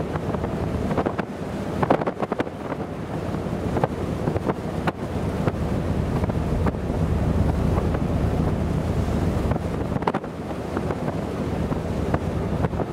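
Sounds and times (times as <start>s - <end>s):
choppy sea: 0.0s - 12.9s
wind buffeting microphone: 0.0s - 12.9s.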